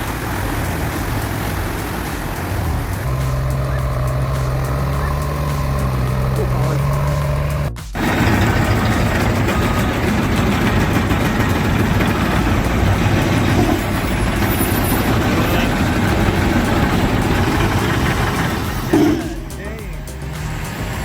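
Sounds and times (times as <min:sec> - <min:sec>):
continuous mechanical noise: 0:00.0 - 0:21.0
diesel engine running: 0:00.0 - 0:21.0.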